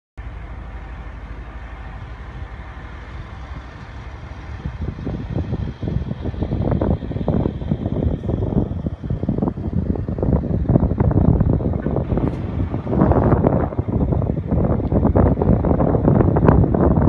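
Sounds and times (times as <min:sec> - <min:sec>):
diesel truck engine idling: 0:00.2 - 0:17.0
wind on microphone: 0:00.2 - 0:17.0.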